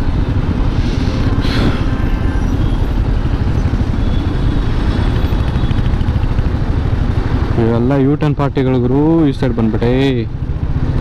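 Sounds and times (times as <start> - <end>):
engines rumbling in traffic: 0.0 - 11.0.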